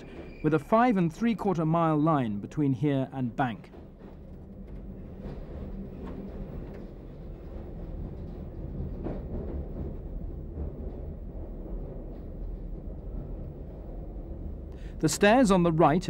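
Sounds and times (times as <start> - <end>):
train rumbling in tunnel: 0.0 - 16.0.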